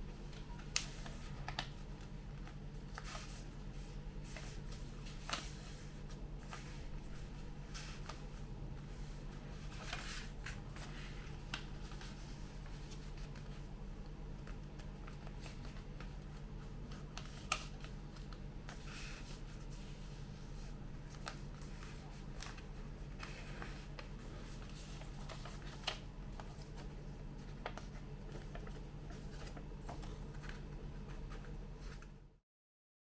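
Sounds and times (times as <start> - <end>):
low electrical hum: 0.0 - 32.4
paper rustling and creasing: 0.2 - 32.2.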